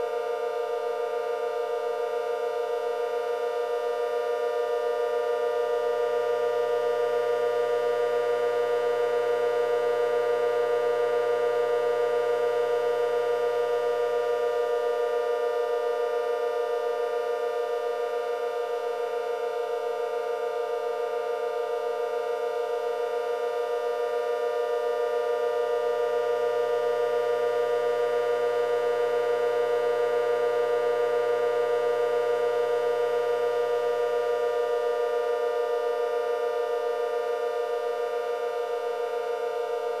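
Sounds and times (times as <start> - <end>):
warning siren steady tone: 0.0 - 40.0.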